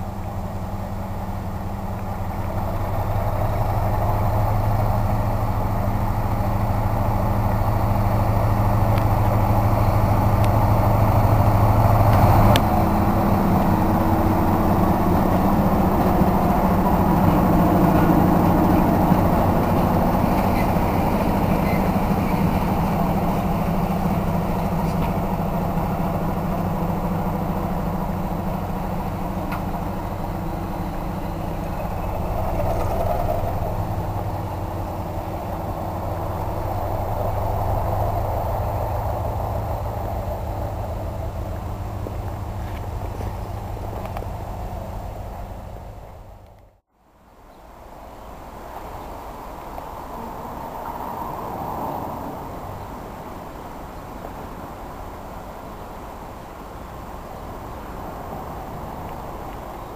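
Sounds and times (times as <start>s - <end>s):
diesel locomotive engine passing: 0.0s - 59.9s.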